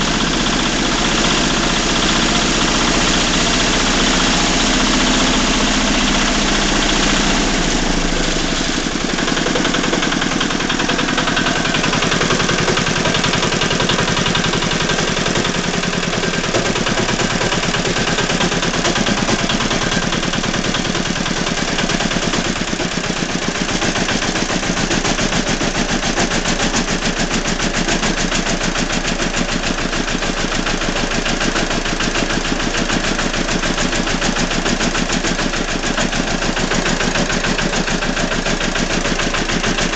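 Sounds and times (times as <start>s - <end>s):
tractor engine idling with knock: 0.0s - 39.9s.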